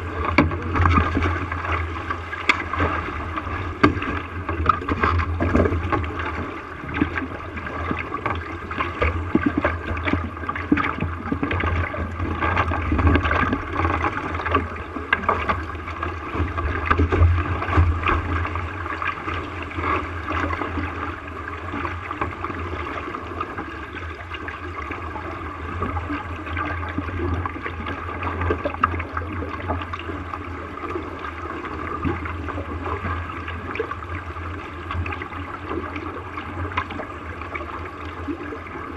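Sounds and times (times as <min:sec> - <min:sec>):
water splashing along a hull: 0:00.0 - 0:38.9.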